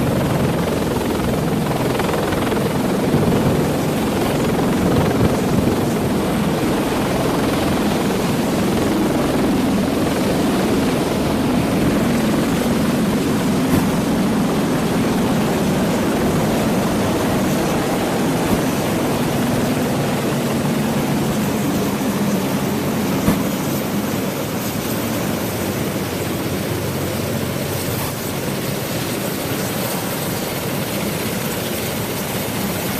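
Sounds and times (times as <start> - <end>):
helicopter rotors and engines: 0.0 - 32.9.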